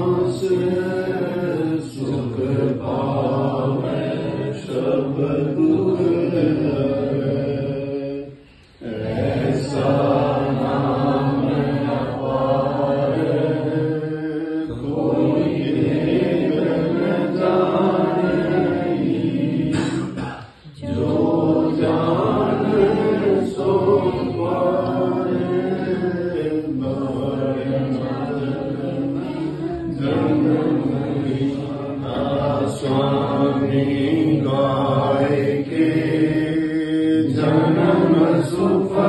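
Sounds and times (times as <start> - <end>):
group chanting a hymn: 0.0 - 39.0.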